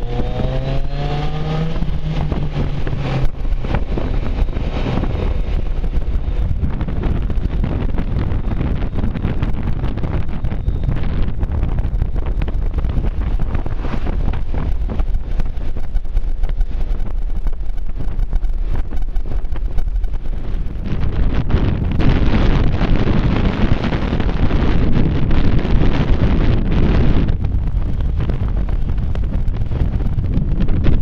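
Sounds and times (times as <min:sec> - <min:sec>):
road noise: 0:00.0 - 0:31.0
scooter engine: 0:00.0 - 0:31.0
wind rushing over microphone: 0:00.0 - 0:31.0.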